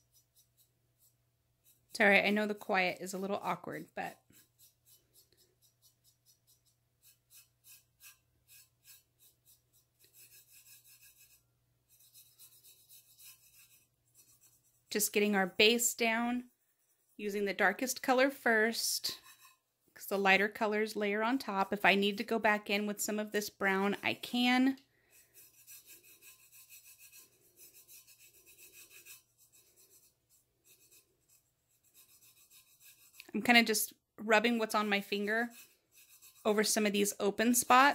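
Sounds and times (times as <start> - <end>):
fingertip rubbing paint on steel: 0.0 - 18.3, 19.0 - 19.7, 23.1 - 33.8, 34.4 - 37.9.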